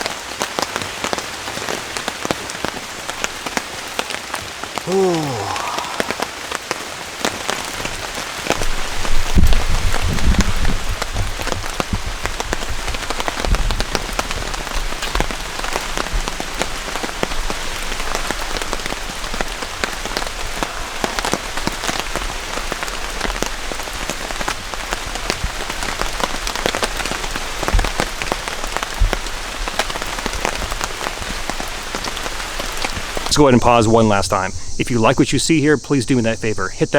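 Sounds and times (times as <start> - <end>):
heavy rain falling: 0.0 - 36.6.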